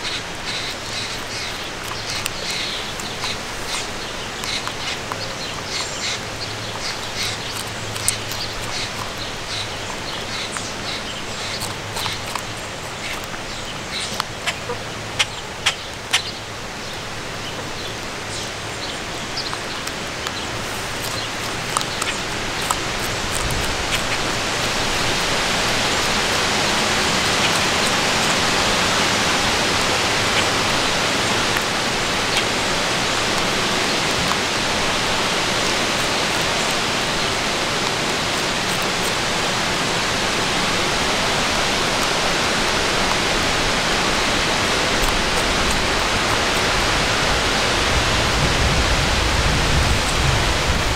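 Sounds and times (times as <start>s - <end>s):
rushing wind: 0.0s - 50.9s.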